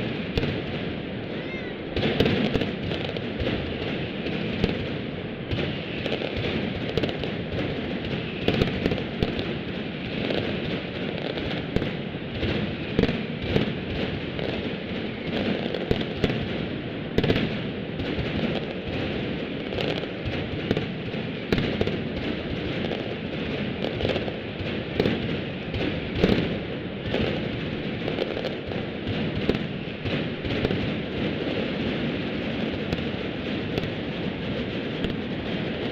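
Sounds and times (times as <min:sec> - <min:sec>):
firecrackers crackling: 0:00.0 - 0:35.9
loud firecracker bangs: 0:00.0 - 0:35.9.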